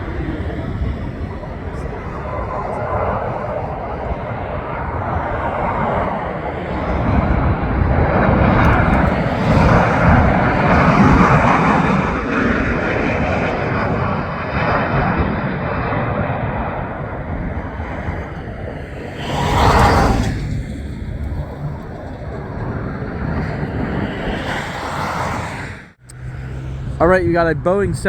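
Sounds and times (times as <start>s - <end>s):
jet passing low overhead: 0.0s - 28.0s.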